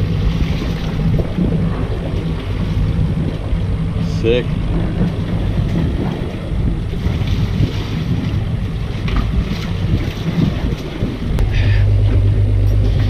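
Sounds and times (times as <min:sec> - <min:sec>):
steady low hum: 0:00.0 - 0:13.0
waves washing around boat: 0:00.0 - 0:13.0
wind buffeting microphone: 0:00.0 - 0:13.0.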